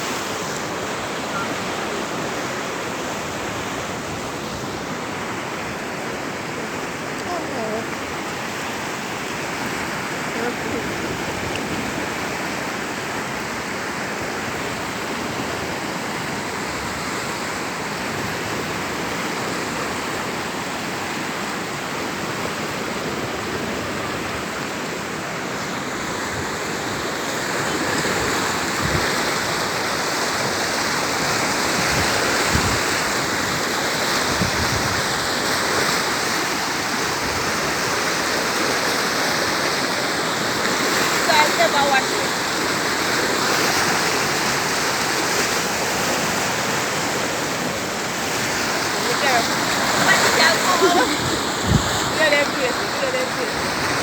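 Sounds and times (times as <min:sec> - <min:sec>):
flooded river rushing: 0:00.0 - 0:54.0.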